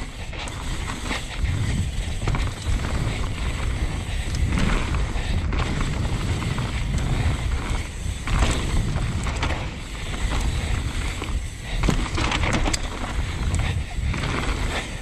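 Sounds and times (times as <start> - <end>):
bike knocking and rattling: 0.0 - 15.0
bike tyres rolling on dirt: 0.0 - 15.0
wind buffeting microphone: 0.0 - 15.0.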